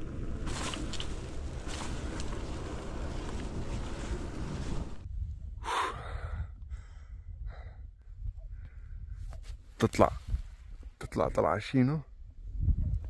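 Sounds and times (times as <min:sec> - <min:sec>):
wind buffeting microphone: 0:00.0 - 0:11.0, 0:12.2 - 0:13.0.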